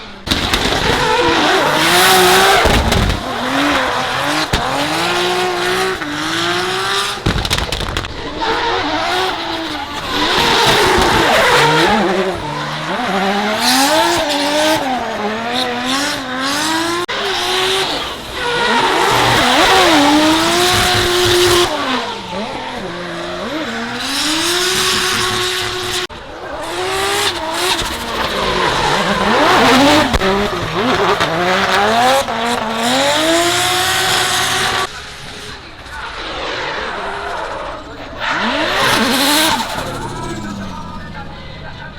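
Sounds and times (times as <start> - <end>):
car engines revving hard: 0.0 - 41.9
tyre squeal: 0.2 - 41.8.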